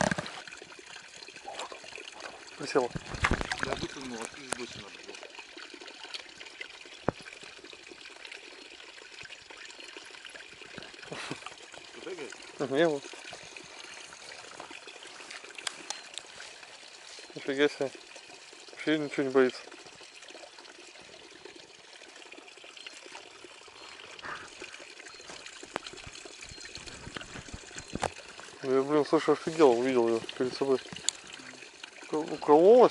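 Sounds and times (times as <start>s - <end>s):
river water trickling: 0.0s - 32.9s.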